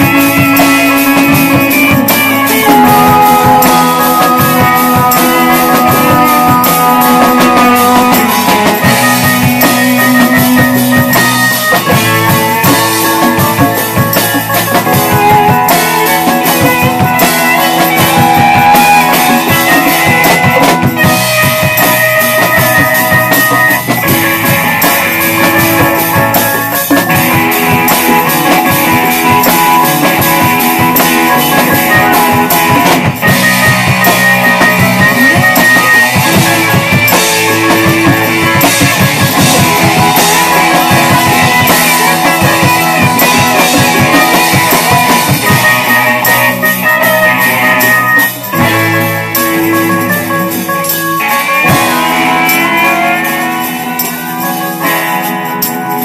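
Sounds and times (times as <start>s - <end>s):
drum kit: 0.0s - 56.0s
electric guitars: 0.0s - 56.0s
hand drums: 0.0s - 56.0s.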